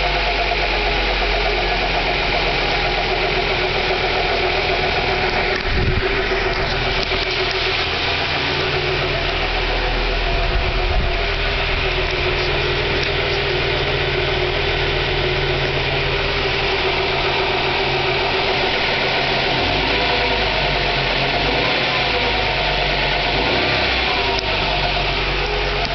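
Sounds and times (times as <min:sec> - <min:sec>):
car engine idling: 0:00.0 - 0:25.9
secondary engine noise: 0:00.0 - 0:25.9.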